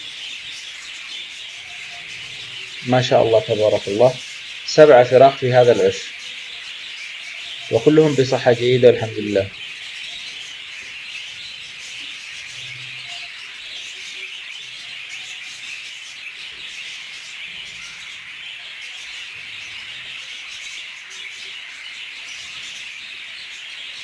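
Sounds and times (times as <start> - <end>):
budgerigars chirping: 0.0 - 24.0.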